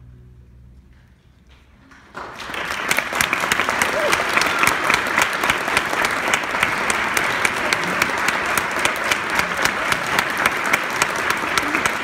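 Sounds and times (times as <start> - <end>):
audience applauding: 1.8 - 12.0
close hands clapping steadily: 1.9 - 12.0.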